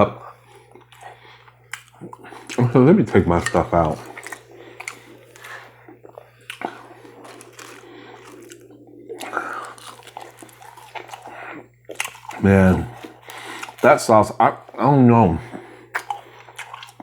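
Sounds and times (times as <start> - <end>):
person chewing crunchy food: 0.0 - 14.9, 15.5 - 17.0.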